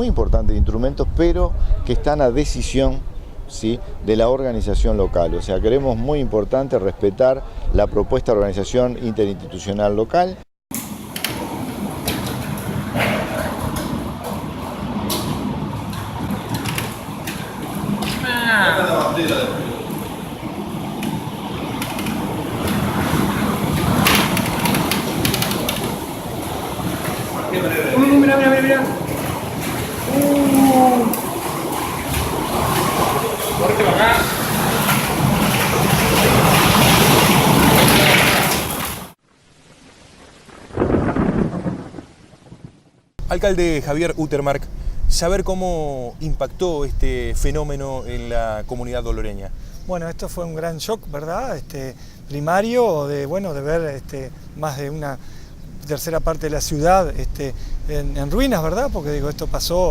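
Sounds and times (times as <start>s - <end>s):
wind and rain rushing: 10.7s - 59.9s
faint rain-like hiss: 10.8s - 59.9s.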